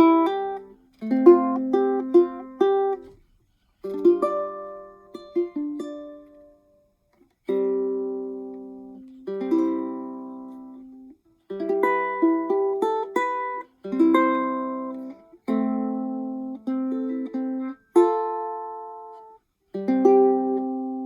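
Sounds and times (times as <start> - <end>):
ukulele played fingerstyle: 0.0 - 21.0.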